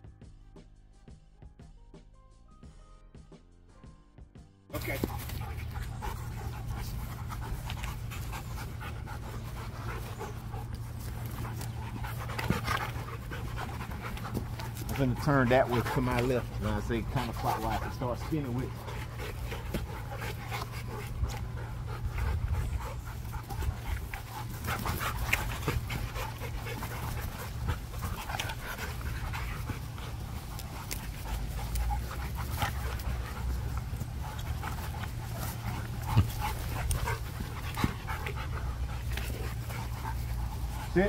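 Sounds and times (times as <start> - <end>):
dog panting hard: 4.8 - 41.0.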